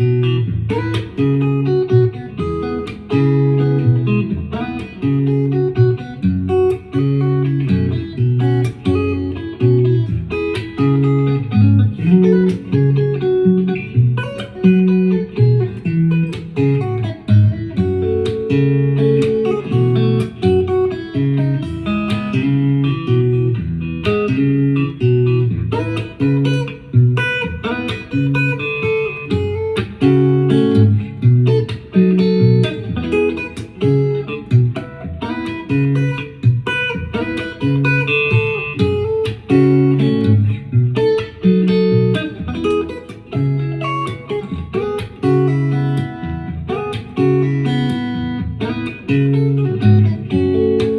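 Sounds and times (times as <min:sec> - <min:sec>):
guitar instrumental: 0:00.0 - 0:50.9.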